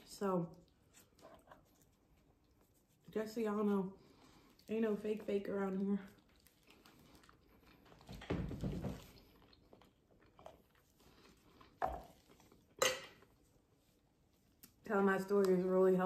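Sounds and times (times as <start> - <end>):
chewing with soft smacking: 0.4 - 3.1, 4.0 - 8.2, 9.0 - 15.5.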